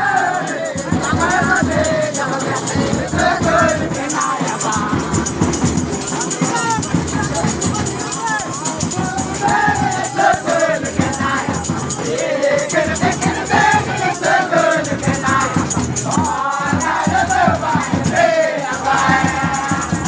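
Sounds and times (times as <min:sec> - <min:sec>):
dense steady percussion: 0:00.0 - 0:20.0
group of voices singing: 0:00.0 - 0:20.0.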